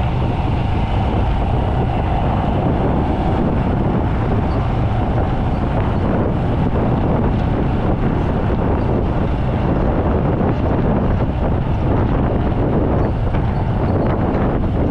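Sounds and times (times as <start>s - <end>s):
wind on microphone: 0.0s - 14.9s.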